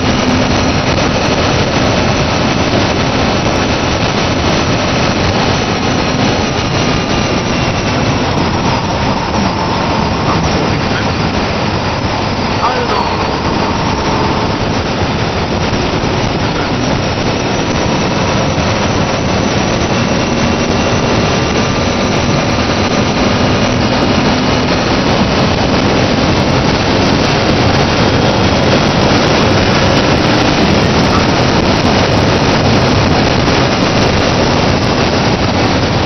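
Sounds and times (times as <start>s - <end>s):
car engine accelerating: 0.0s - 36.0s
wind and road noise: 0.0s - 36.0s.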